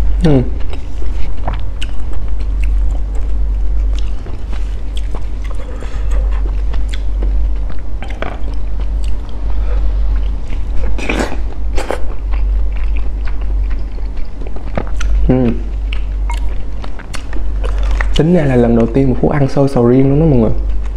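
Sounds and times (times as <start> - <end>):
low hum: 0.0 - 20.9
chewing and wet mouth sounds: 0.5 - 18.3.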